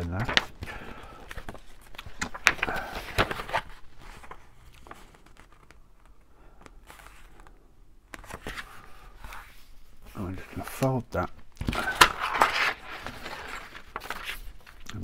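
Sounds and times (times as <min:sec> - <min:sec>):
tracing paper rustling: 0:00.0 - 0:15.0.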